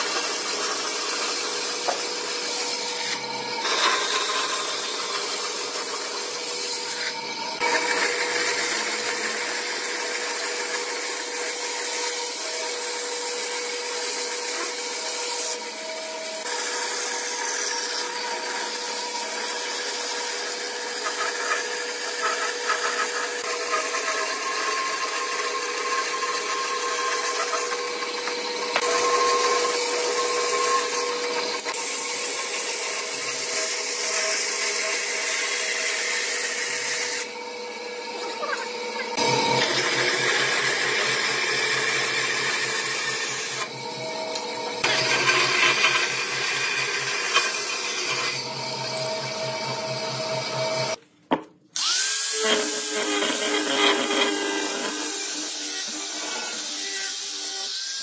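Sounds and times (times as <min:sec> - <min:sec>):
bandsaw cutting wood: 0:00.0 - 0:51.0, 0:51.8 - 0:58.0.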